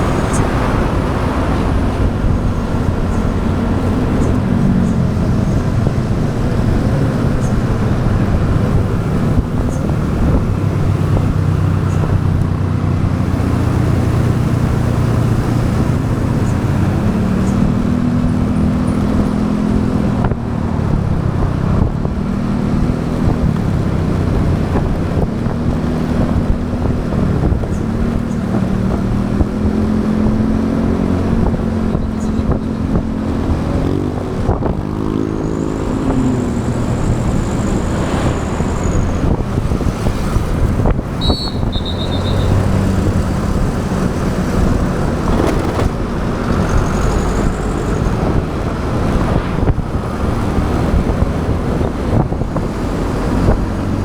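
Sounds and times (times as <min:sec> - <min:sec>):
motorbike engine running: 0:00.0 - 0:49.0
road noise: 0:00.0 - 0:54.0.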